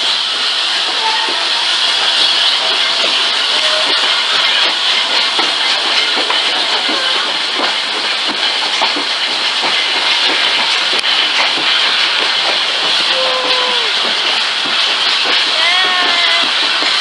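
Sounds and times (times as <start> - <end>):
train wheels clicking on track: 0.0 - 17.0.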